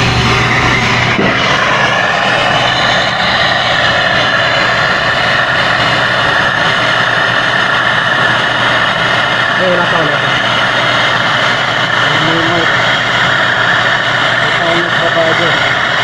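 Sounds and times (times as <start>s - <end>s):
gas torch hissing roar: 0.0s - 16.0s.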